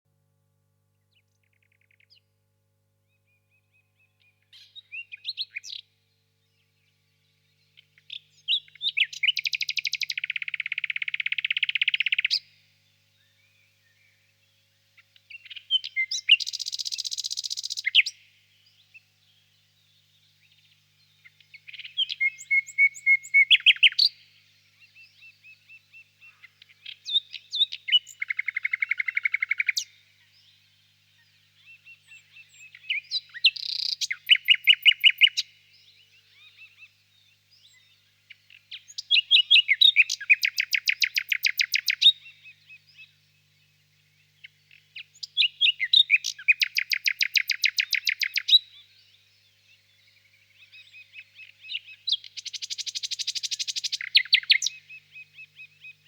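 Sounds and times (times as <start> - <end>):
nightingale singing: 3.1 - 56.0.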